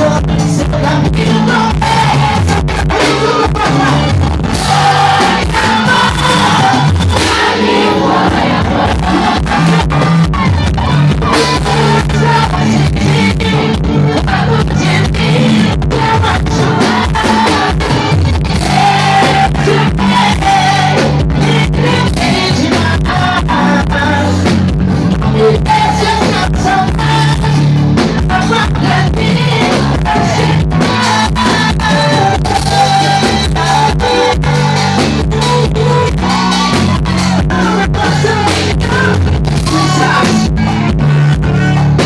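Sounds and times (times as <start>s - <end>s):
bass guitar: 0.0s - 42.0s
person singing: 0.0s - 42.0s
steady drum beat: 0.0s - 42.0s.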